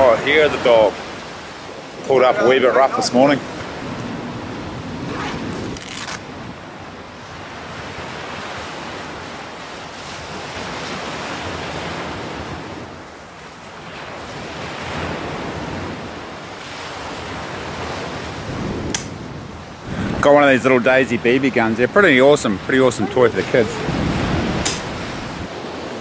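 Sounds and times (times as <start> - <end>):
wind on microphone: 0.0 - 13.1, 14.0 - 21.7, 22.4 - 26.0
sea surf breaking: 0.0 - 26.0.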